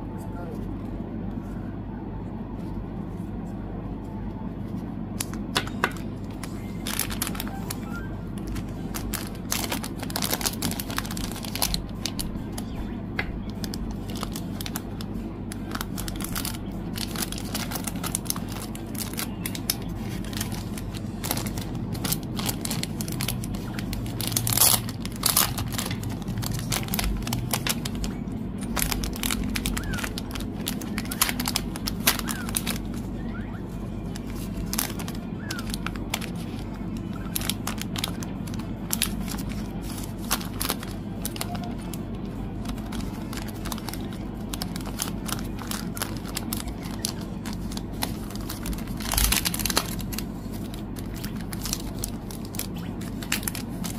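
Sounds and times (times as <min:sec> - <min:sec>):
plastic and paper crinkling: 0:04.6 - 0:53.9.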